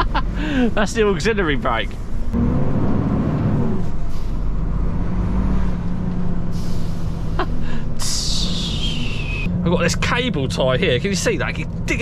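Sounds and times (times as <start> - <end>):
diesel engine: 0.0 - 12.0.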